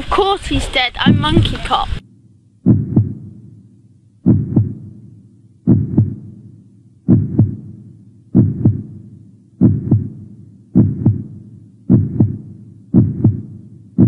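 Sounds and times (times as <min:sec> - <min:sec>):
heartbeat thumps: 0:01.0 - 0:02.0, 0:02.6 - 0:03.6, 0:04.2 - 0:14.0.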